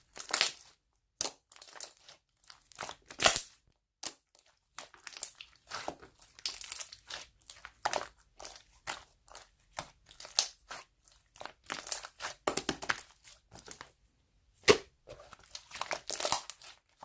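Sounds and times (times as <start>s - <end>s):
slime crackling and popping: 0.1s - 13.8s, 14.7s - 17.0s.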